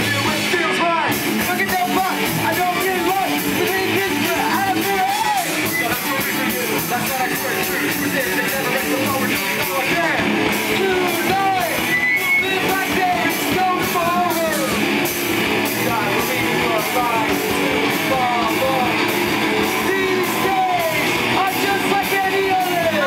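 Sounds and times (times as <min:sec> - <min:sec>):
bass guitar: 0:00.0 - 0:23.0
distorted electric guitars: 0:00.0 - 0:23.0
drum kit fast beat: 0:00.0 - 0:23.0
shouted vocals: 0:00.0 - 0:23.0.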